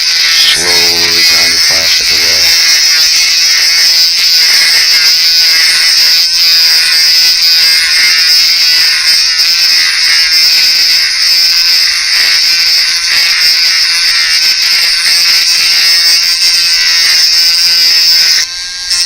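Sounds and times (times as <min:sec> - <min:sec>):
sanding disc whining on plastic: 0:00.0 - 0:19.0.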